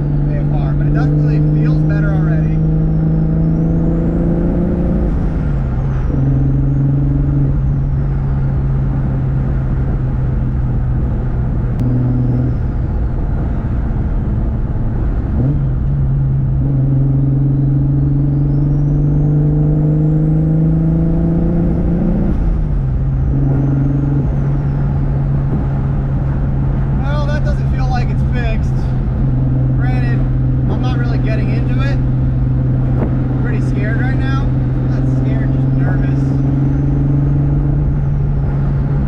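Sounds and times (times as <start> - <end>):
car engine under light throttle: 0.0 - 39.0.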